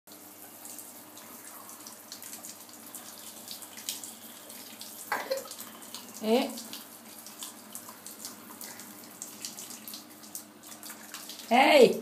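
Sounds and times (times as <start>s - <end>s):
water splashing: 0.4s - 11.6s.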